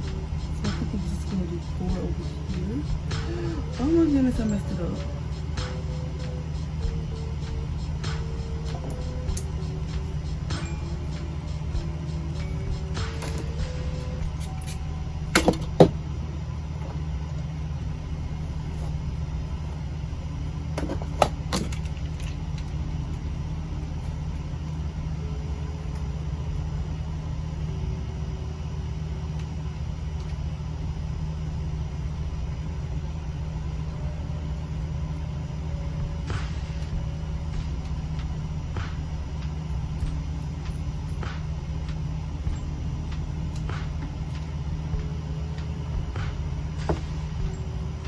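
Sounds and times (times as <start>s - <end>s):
low hum: 0.0s - 48.0s.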